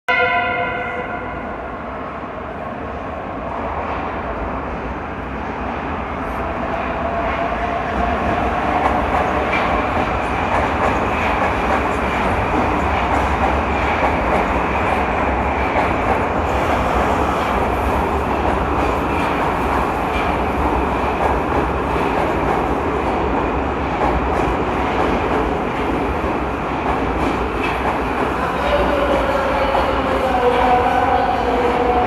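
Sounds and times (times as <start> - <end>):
train wheels rumbling on rail: 1.8 - 32.0.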